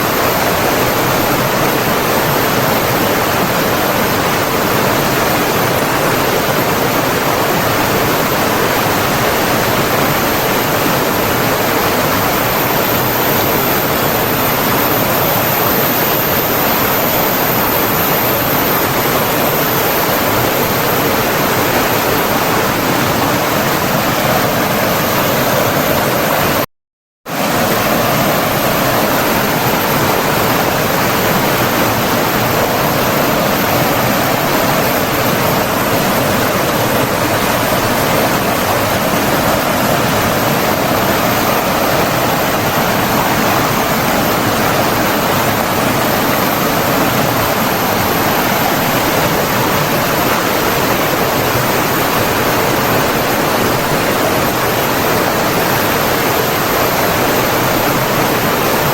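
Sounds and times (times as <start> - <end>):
water rushing: 0.0 - 26.6, 27.3 - 58.9.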